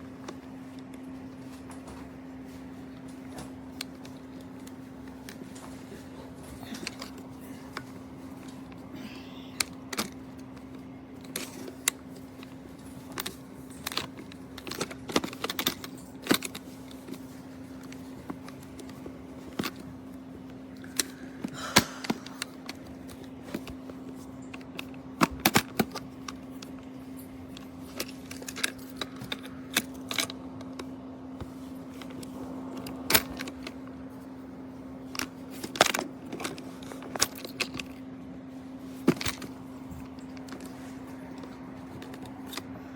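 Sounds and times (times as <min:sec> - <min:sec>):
steady hum: 0:00.0 - 0:42.9.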